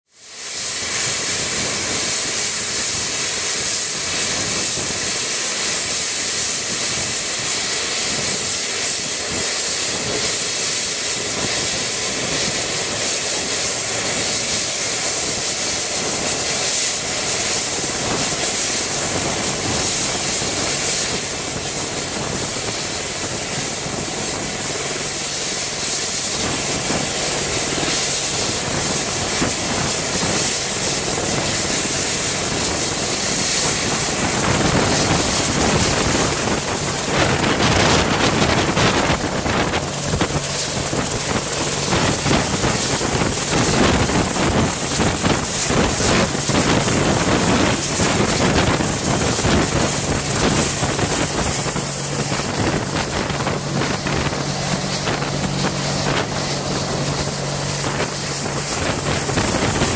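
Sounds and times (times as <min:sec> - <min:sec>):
helicopter engine whine: 0:00.0 - 0:59.9
helicopter rotors turning: 0:00.1 - 0:59.9.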